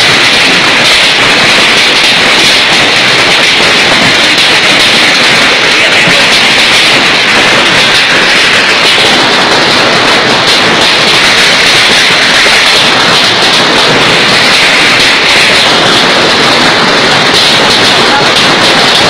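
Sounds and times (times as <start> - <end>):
heavy hail falling: 0.0 - 19.0.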